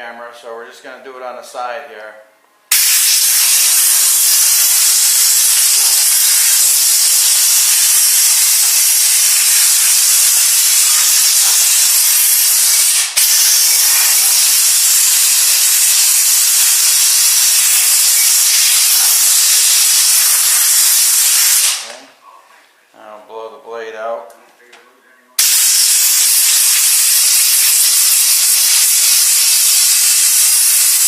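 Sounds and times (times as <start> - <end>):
compressed air hissing: 2.7 - 22.1, 25.4 - 31.0.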